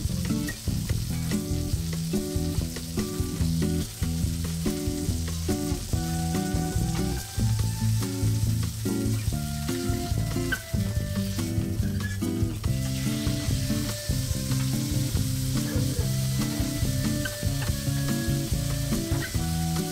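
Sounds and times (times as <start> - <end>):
low-pitched background music: 0.0 - 19.9
steak sizzling in a frying pan: 0.0 - 19.9.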